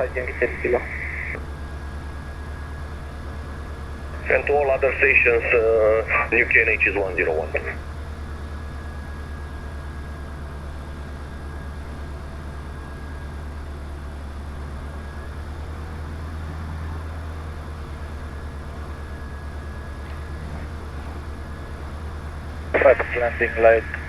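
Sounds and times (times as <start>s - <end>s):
aircraft engine droning: 0.0s - 24.0s
thin steady whine: 0.0s - 24.0s.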